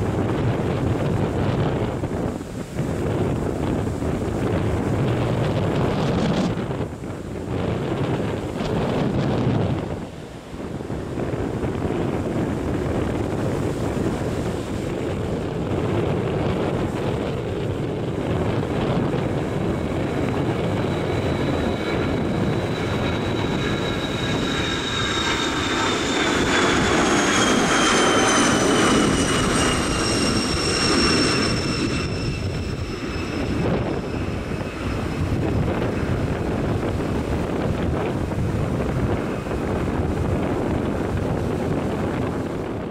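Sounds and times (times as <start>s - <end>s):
jet taking off: 0.0s - 42.9s
turbine whine: 0.0s - 42.9s.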